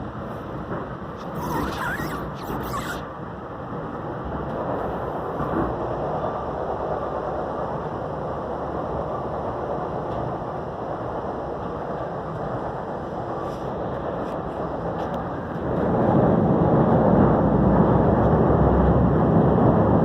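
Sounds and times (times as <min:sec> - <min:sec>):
train rumble and rail noise: 0:00.0 - 0:20.0.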